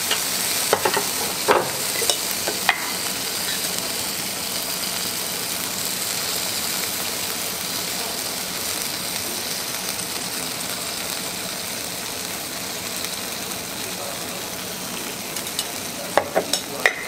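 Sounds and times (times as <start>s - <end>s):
griddle sizzling: 0.0s - 17.0s.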